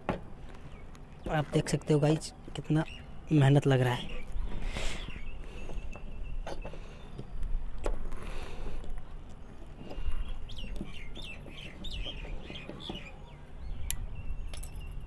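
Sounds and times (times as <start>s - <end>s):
bird chirping: 0.6s - 7.4s, 9.4s - 15.0s.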